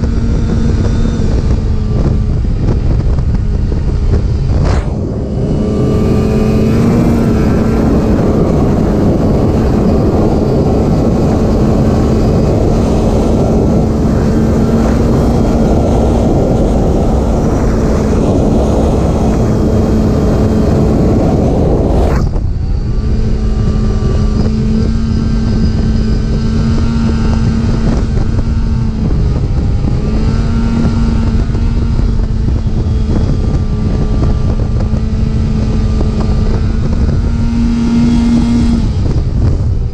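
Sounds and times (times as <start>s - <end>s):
snowmobile engine running: 0.0s - 39.9s
wind rushing over microphone: 0.0s - 39.9s.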